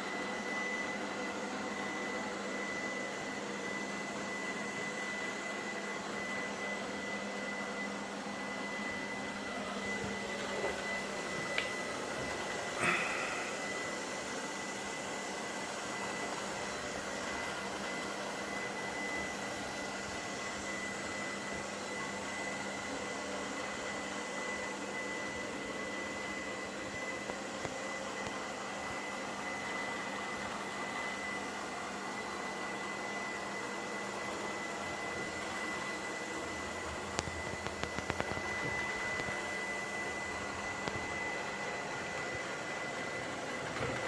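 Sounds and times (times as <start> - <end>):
robot vacuum cleaner running: 0.0 - 44.0.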